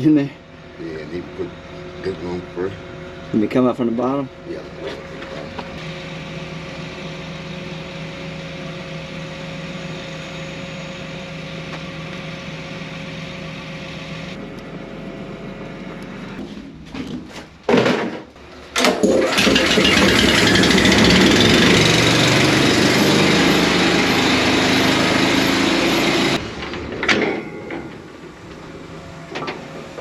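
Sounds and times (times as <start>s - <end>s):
steady mechanical hum: 0.0s - 30.0s
diesel engine cranking and starting: 5.1s - 17.6s, 18.4s - 30.0s.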